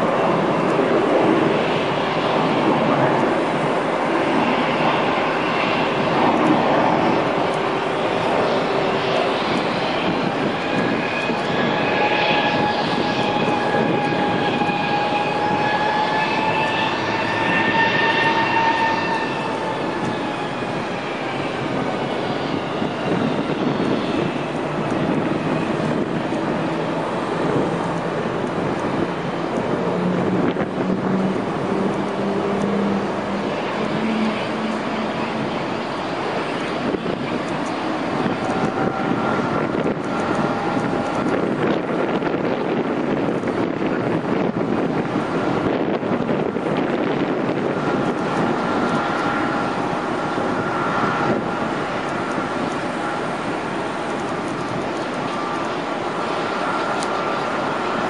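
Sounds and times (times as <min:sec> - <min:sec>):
moving vehicle rumble: 0:00.0 - 0:58.0
wind rushing over microphone: 0:00.0 - 0:58.0.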